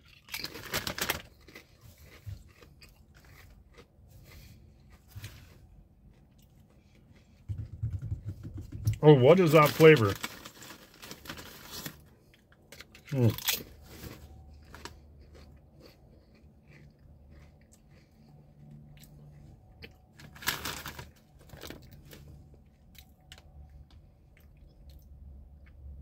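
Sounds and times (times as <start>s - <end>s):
chewing crisp potato chips: 0.0s - 7.5s, 8.9s - 26.0s
low steady hum: 0.0s - 26.0s.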